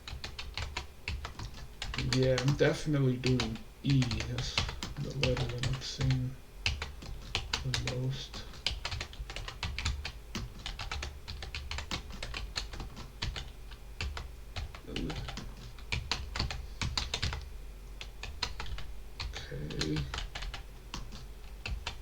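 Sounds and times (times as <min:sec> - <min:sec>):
computer keyboard typing: 0:00.1 - 0:22.0.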